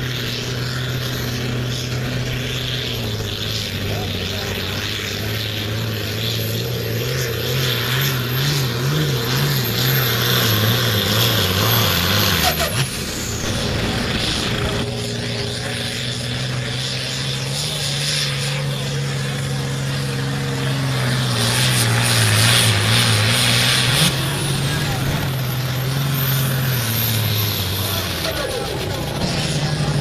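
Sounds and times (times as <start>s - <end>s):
tractor diesel engine under full load: 0.0s - 30.0s.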